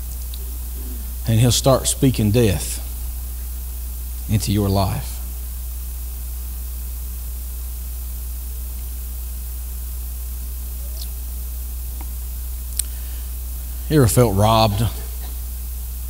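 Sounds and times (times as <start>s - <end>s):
even hiss: 0.0s - 16.0s
low hum: 0.0s - 16.0s.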